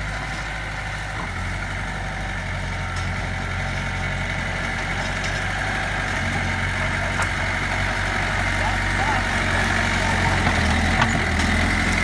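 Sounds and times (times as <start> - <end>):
bulldozer diesel engine: 0.0 - 12.0.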